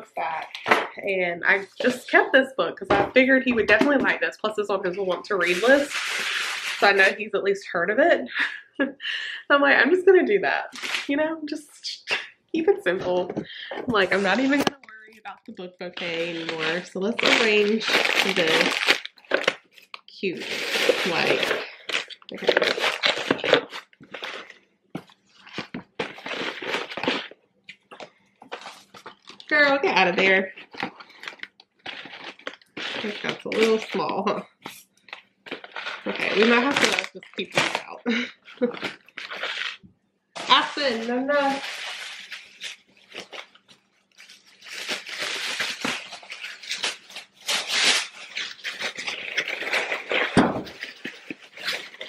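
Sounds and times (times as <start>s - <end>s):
candy packaging rustling: 0.4s - 2.5s, 3.2s - 7.2s, 10.5s - 11.7s, 12.8s - 39.8s, 40.4s - 52.0s.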